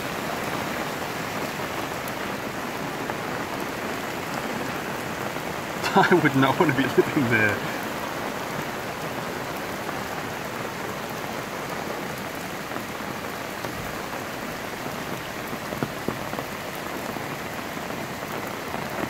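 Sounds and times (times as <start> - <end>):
rain falling on pavement: 0.0 - 19.0.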